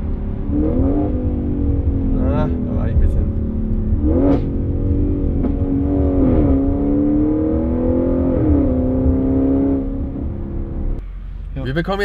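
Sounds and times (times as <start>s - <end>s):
car engine accelerating: 0.0s - 11.6s.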